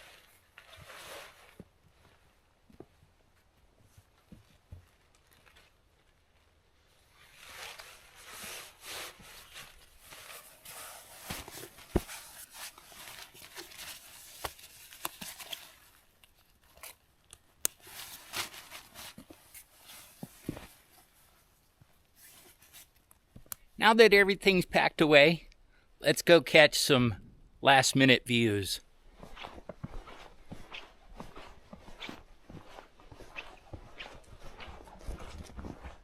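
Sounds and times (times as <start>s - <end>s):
fabric rustling and crinkling: 0.0s - 23.5s, 29.0s - 36.0s.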